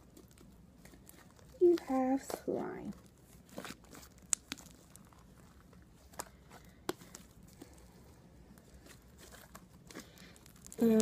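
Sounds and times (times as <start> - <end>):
slime squishing: 0.0 - 11.0.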